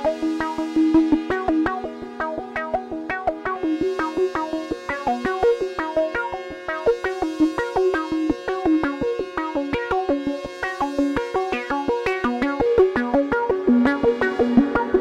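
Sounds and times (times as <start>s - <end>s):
synthesizer pad: 0.0s - 15.0s.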